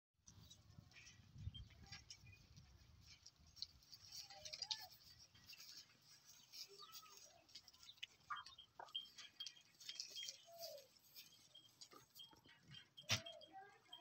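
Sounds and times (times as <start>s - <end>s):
goats rustling on straw: 0.4s - 14.0s.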